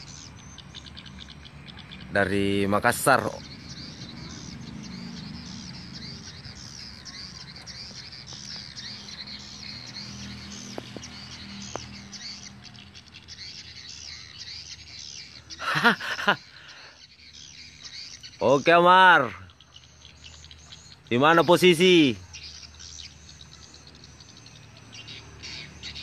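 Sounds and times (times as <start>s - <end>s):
bird lure call: 0.0s - 26.0s.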